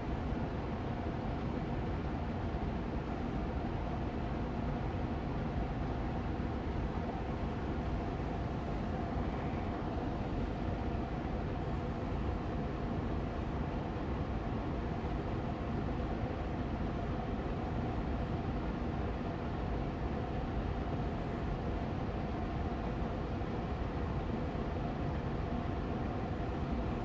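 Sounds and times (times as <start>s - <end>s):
air purifier fan running: 0.0s - 27.0s.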